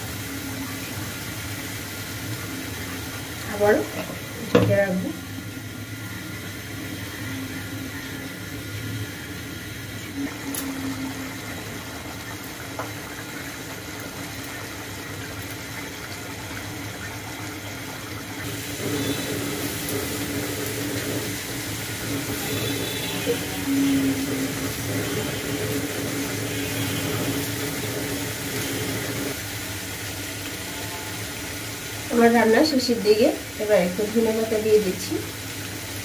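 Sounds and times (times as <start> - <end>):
curry bubbling in a pan: 0.0 - 32.5.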